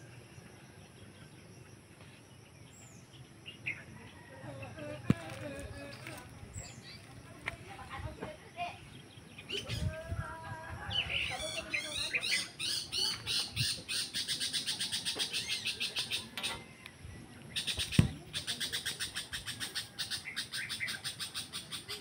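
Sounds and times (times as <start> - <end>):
birds chattering: 0.0 - 22.0.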